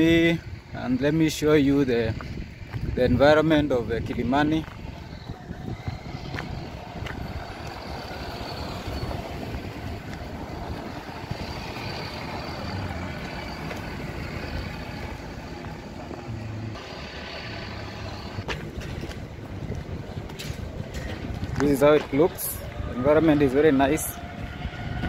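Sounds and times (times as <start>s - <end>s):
traffic noise: 0.0s - 25.0s
wind rumbling on microphone: 0.0s - 25.0s.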